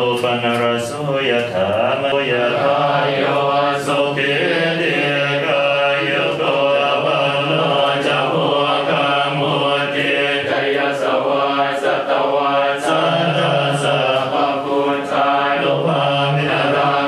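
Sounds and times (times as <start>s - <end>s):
men chanting in unison: 0.0s - 17.0s.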